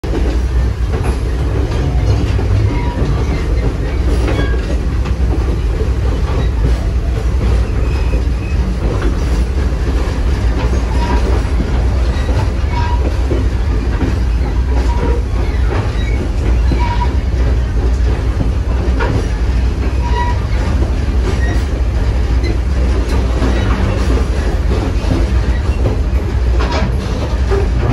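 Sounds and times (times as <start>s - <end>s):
steel wheels rumbling on rails: 0.0s - 27.9s
wheels clacking over rail joints: 0.1s - 27.9s.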